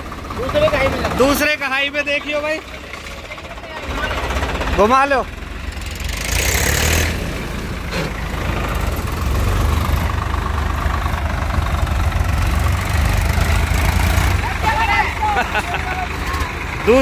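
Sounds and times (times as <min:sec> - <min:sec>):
tractor diesel engines running: 0:00.0 - 0:17.0.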